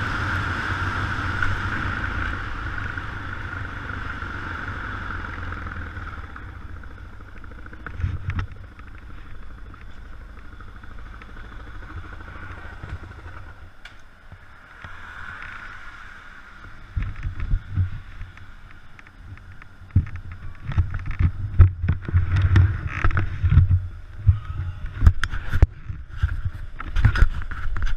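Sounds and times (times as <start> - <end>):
low buffeting: 0.0 - 27.9
motorcycle engine running: 0.0 - 27.9
wind and spray hiss: 0.0 - 27.9.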